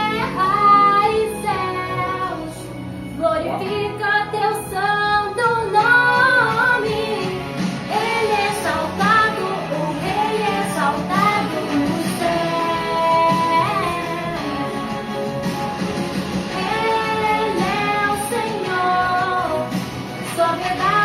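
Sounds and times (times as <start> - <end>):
guitar and bass accompaniment: 0.0 - 21.0
high voices singing: 0.0 - 21.0.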